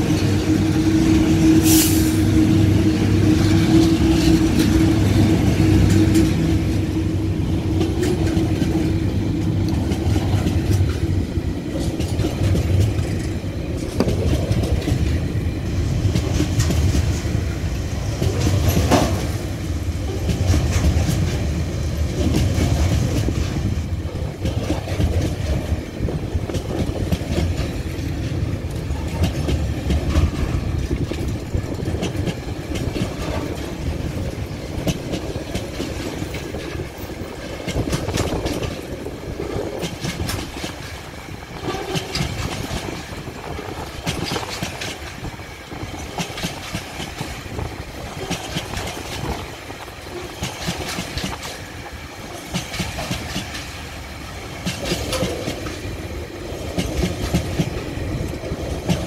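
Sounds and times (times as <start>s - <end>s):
freight train rolling past: 0.0s - 59.0s
train wheels clattering: 0.0s - 59.0s.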